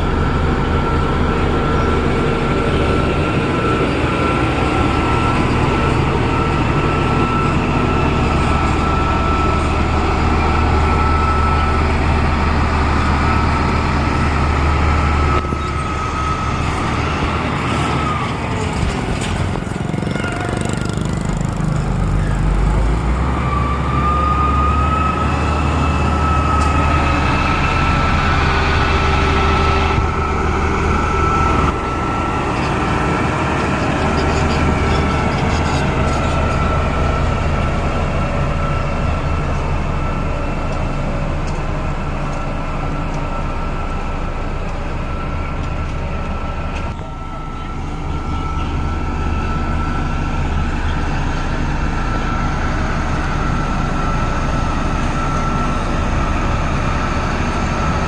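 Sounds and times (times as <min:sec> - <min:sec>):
high-pitched whine: 0:00.0 - 0:20.7, 0:21.7 - 0:58.0
bulldozer diesel engine running: 0:00.0 - 0:58.0.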